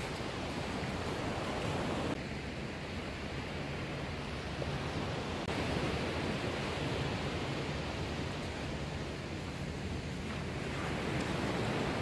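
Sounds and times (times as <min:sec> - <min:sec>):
surf breaking on a beach: 0:00.0 - 0:12.0.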